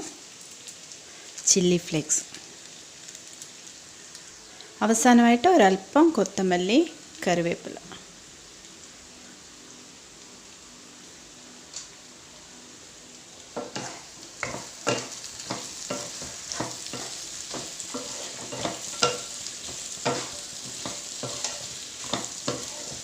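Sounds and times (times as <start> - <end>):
light frying sizzle: 0.0 - 23.0.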